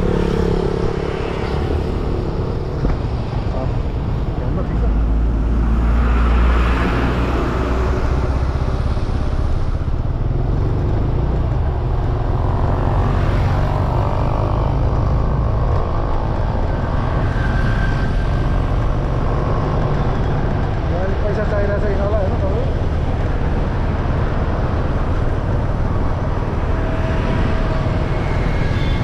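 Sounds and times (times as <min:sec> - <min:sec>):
motorcycle engine and tyre noise: 0:00.0 - 0:29.0
wind rumbling on microphone: 0:00.0 - 0:29.0.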